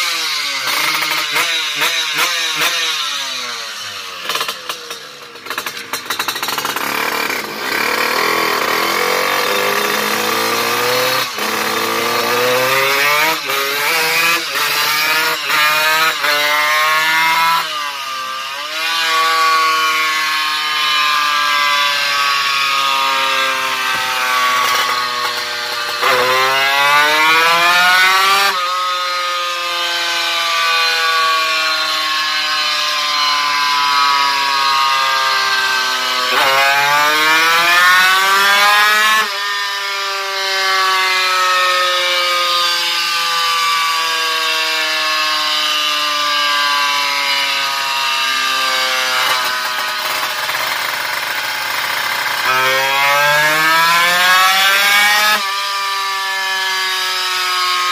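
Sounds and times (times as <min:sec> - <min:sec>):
dyno roller winding down: 0:00.0 - 0:57.9
motorcycle engine revving: 0:00.0 - 0:57.9.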